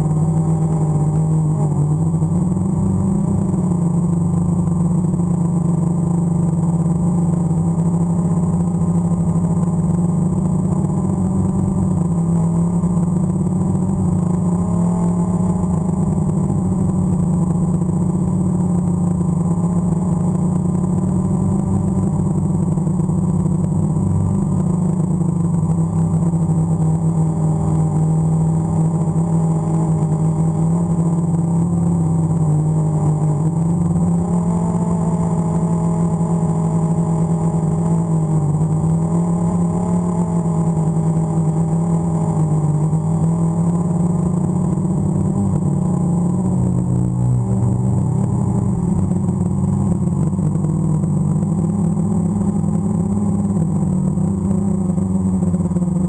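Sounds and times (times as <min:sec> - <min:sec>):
drone motors and propellers humming: 0:00.0 - 0:56.0.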